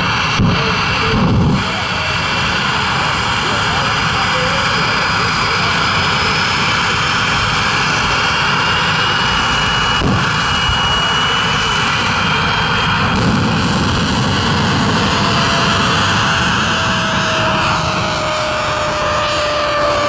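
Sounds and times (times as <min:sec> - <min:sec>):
afterburner rumble: 0:00.0 - 0:20.0
jet engine with turbine whine: 0:00.0 - 0:20.0.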